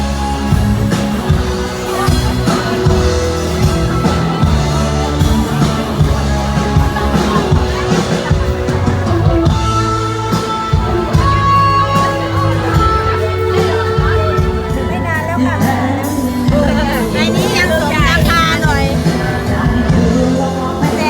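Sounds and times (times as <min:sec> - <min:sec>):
drum kit: 0:00.0 - 0:21.0
electric guitar: 0:00.0 - 0:21.0.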